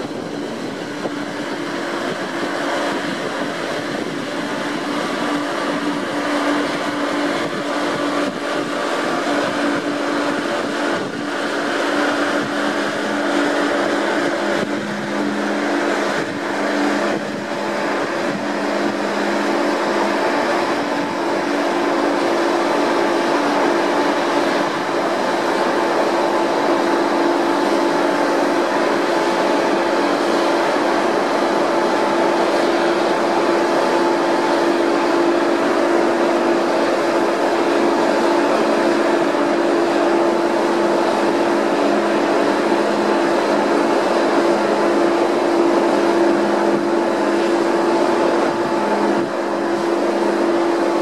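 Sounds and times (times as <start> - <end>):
lower hum: 0.0 - 51.0
rushing noise: 0.0 - 51.0
ship engines droning: 0.0 - 51.0.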